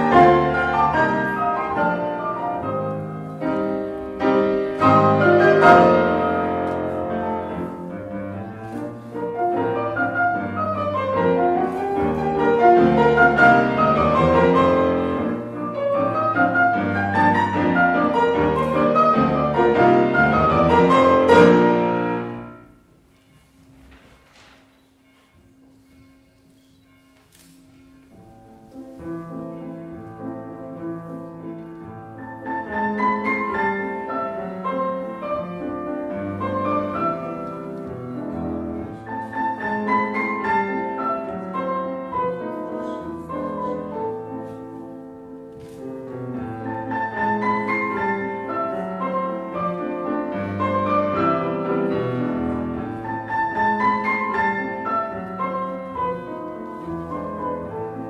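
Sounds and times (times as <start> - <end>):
classical piano duet: 0.0 - 58.0.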